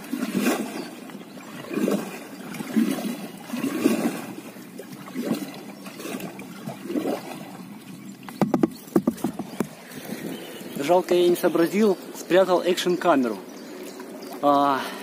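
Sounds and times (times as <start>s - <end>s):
fast-flowing river water: 0.0s - 15.0s
kayak paddle splashing: 0.0s - 15.0s.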